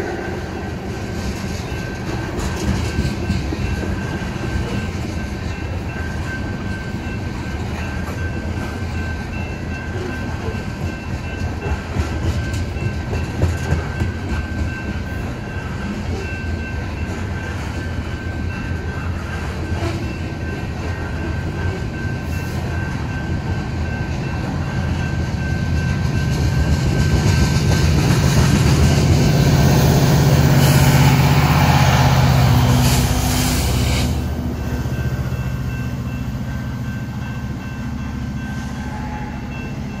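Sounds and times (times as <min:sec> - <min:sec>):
diesel locomotive engine running: 0:00.0 - 0:40.0
train wheels on rails: 0:00.0 - 0:40.0.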